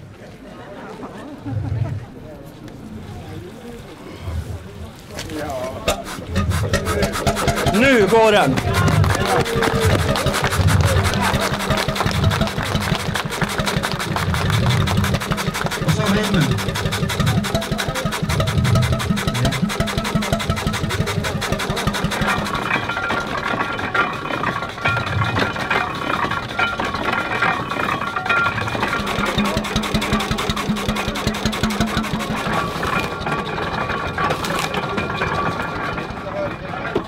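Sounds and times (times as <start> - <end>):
old engine running with rapid beat: 5.9 - 37.0.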